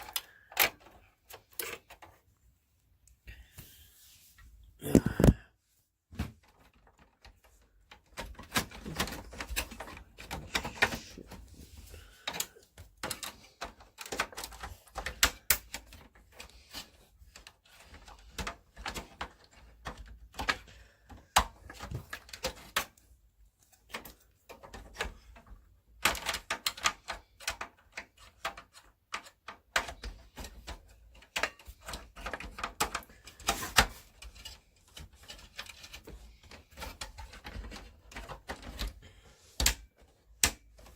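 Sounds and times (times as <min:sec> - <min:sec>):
hands handling computer parts: 0:00.0 - 0:40.9.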